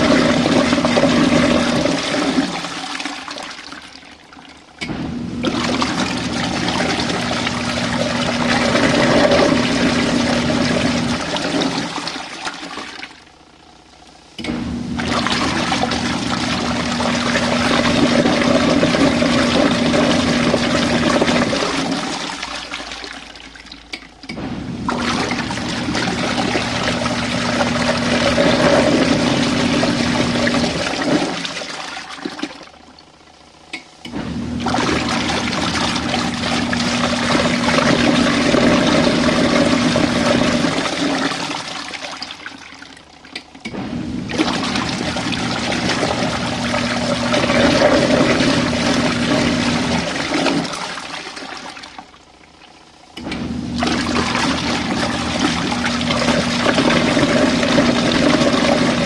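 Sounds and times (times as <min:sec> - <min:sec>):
washing machine motor humming: 0:00.0 - 0:59.0.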